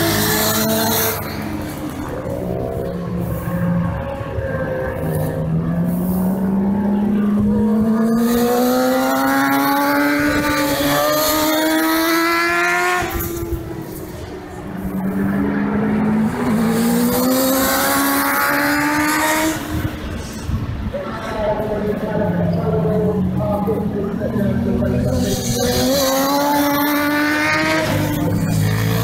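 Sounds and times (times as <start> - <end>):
motorcycle engine at full throttle: 0.0 - 29.0.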